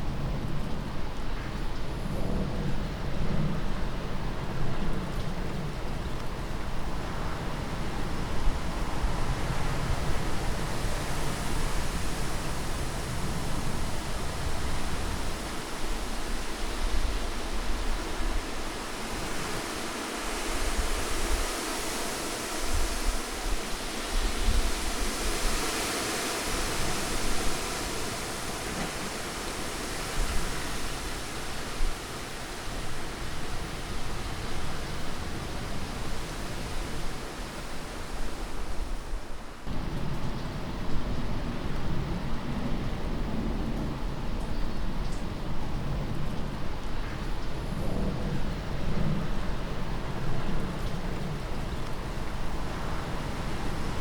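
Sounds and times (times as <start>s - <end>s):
rushing wind: 0.0s - 54.0s.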